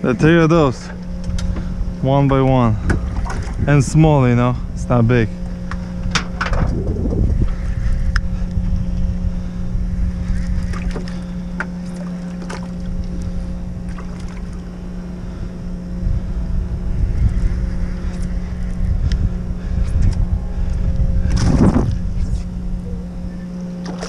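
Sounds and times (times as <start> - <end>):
boat engine idling: 0.0 - 24.0
wind rumble on microphone: 0.0 - 24.0.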